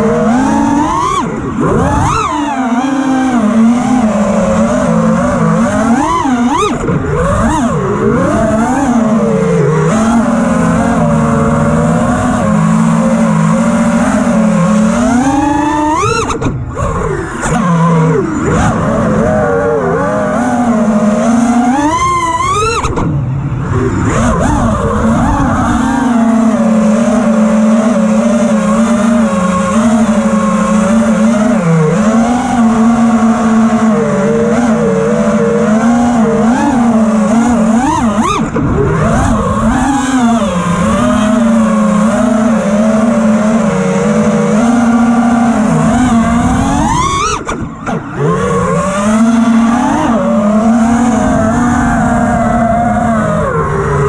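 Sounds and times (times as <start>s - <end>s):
drone motors whining: 0.0s - 54.0s.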